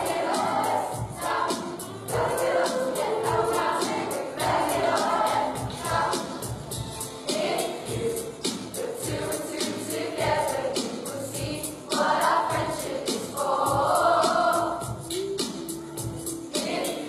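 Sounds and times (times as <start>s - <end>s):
children's choir singing: 0.0s - 6.6s, 7.2s - 15.1s, 16.4s - 17.0s
accompaniment with steady beat: 0.0s - 17.0s.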